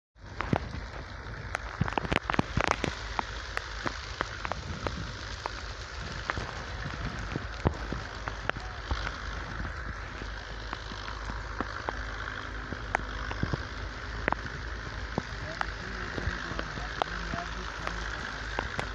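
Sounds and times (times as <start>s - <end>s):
dry straw rustling and crackling: 0.2s - 18.9s
low rumble: 0.2s - 18.9s.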